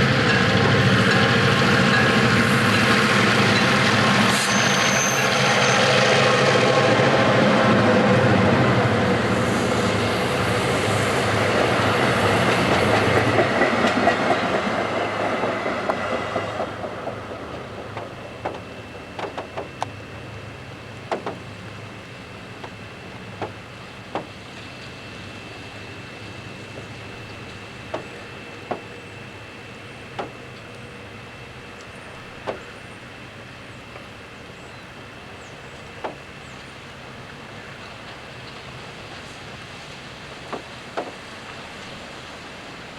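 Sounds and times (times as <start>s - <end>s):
train passing: 0.0s - 42.9s.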